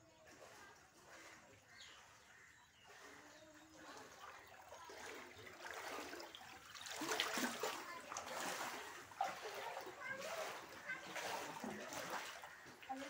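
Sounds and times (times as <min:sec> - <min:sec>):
floodwater splashing: 0:00.0 - 0:13.0.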